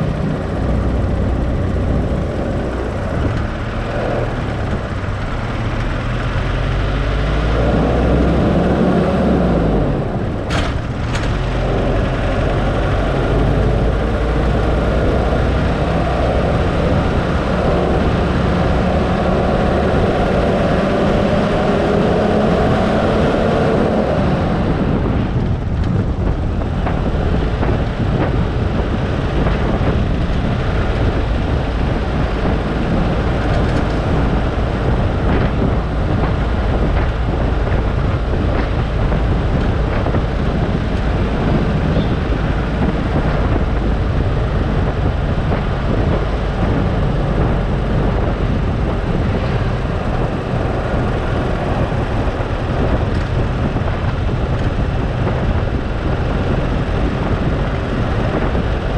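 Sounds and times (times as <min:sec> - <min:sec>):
road noise: 0:00.0 - 0:58.9
vehicle engine: 0:00.0 - 0:58.9.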